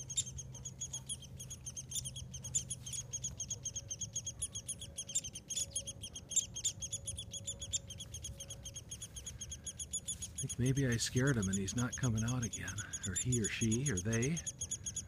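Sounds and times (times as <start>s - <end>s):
nestlings begging chatter: 0.0s - 15.0s.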